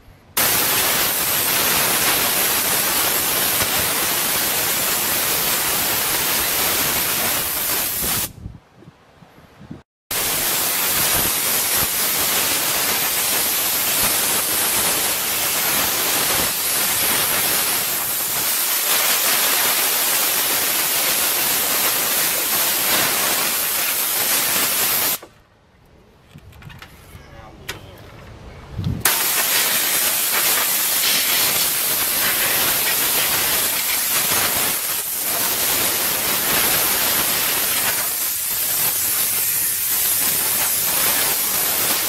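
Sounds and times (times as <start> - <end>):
compressed air hissing: 0.4 - 8.3, 10.2 - 25.3, 29.0 - 42.0.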